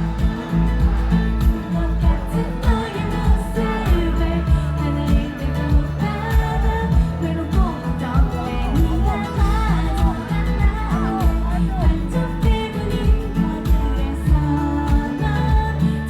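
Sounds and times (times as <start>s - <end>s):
pop song over sound system: 0.0s - 16.0s.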